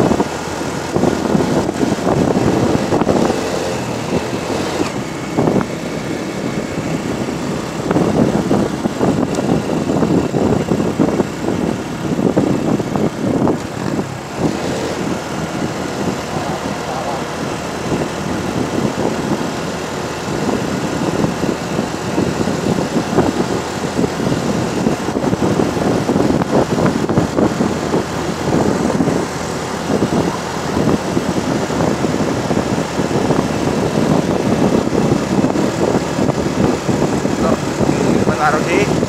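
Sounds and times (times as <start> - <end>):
vehicle engine running: 0.0 - 39.0
wind buffeting microphone: 0.0 - 39.0.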